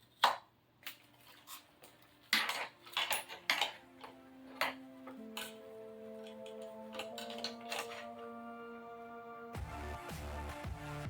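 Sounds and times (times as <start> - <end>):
background music: 0.8 - 11.0.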